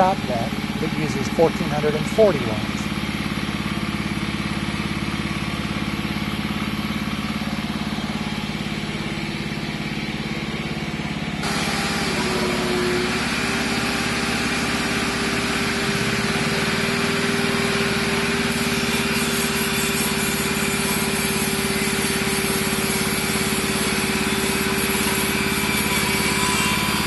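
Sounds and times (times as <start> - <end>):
generator engine running: 0.0 - 27.0
shop vacuum hissing and whining: 2.6 - 27.0.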